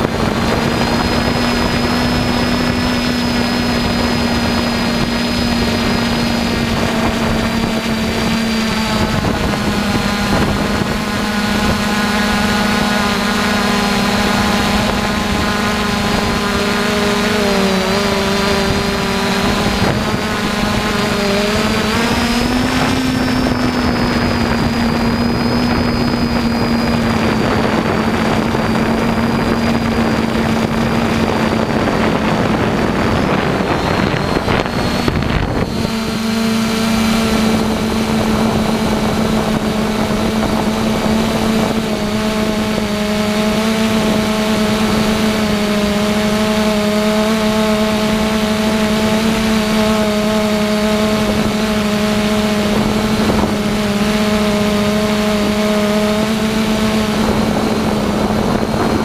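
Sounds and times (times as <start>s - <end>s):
drone propellers humming: 0.0s - 59.0s
wind buffeting microphone: 0.0s - 59.0s.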